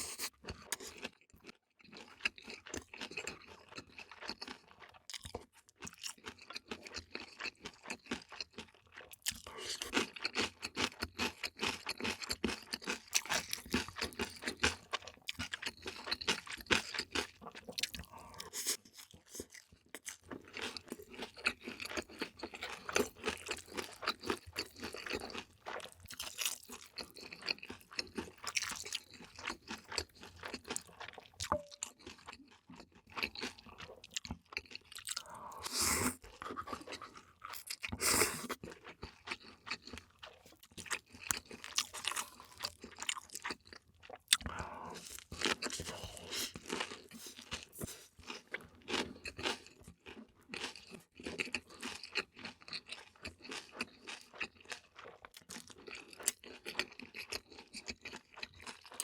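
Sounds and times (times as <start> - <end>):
chewing and crunching food: 0.0 - 59.0.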